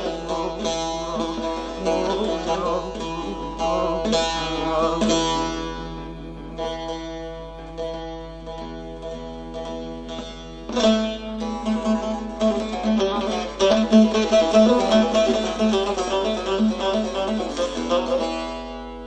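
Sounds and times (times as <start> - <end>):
plucked long-necked lute: 0.0 - 19.0.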